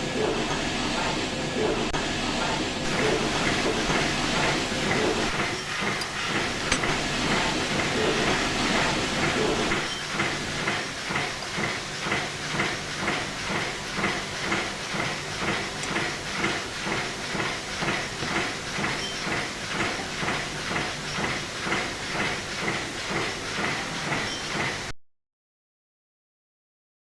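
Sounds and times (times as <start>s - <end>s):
metal lathe cutting steel: 0.0s - 24.9s.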